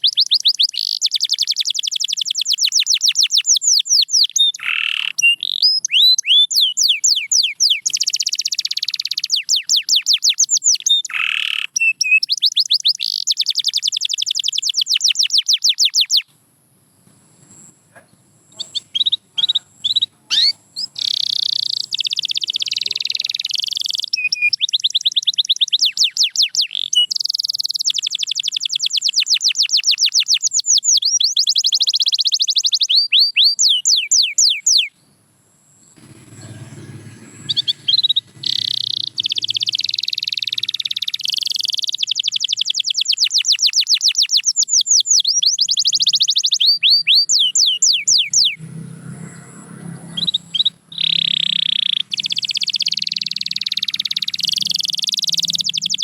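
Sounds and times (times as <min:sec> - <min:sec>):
canary singing: 0:00.0 - 0:16.3, 0:17.5 - 0:56.0.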